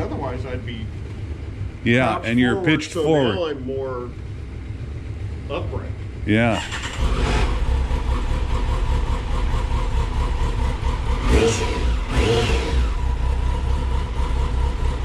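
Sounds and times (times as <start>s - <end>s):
engine throttle blips: 0.0s - 15.0s
motorcycle engine idling: 0.0s - 15.0s.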